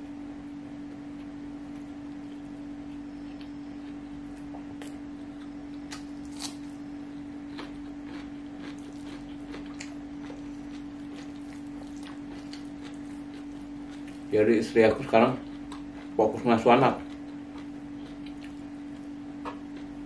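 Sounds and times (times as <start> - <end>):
steady low hum: 0.0 - 20.0
person chewing: 1.1 - 14.3, 14.9 - 16.4, 17.0 - 20.0.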